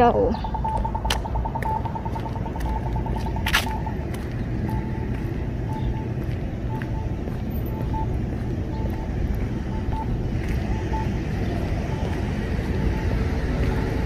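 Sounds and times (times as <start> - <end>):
crossing signal ticking rapidly: 0.0 - 14.0
street traffic rumble: 0.0 - 14.0
crossing signal short beeps: 0.3 - 4.1, 4.7 - 14.0.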